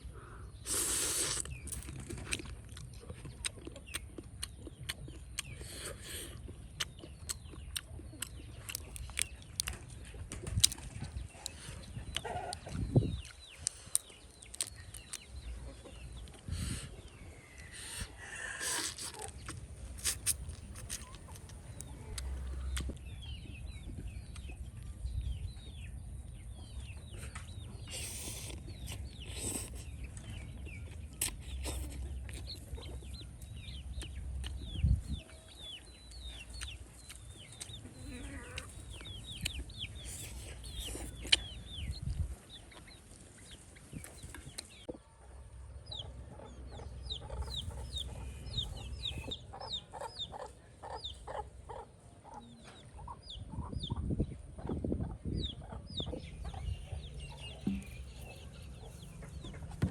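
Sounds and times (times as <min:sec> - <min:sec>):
chickens clucking: 0:00.1 - 0:59.9.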